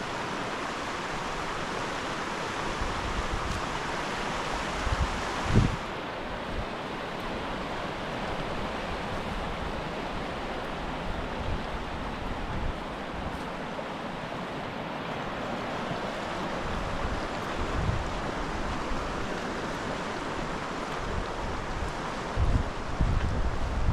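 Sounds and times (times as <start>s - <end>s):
creek rushing over rocks: 0.0s - 23.9s.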